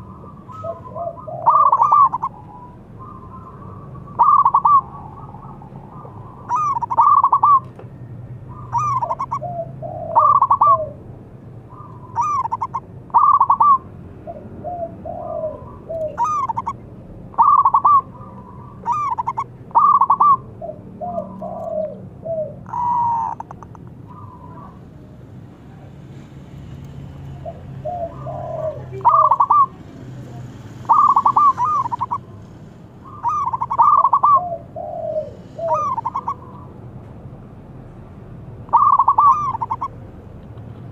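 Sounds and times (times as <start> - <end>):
dove cooing: 0.0 - 7.7, 8.5 - 11.0, 11.7 - 24.9, 27.2 - 36.8, 38.6 - 40.0.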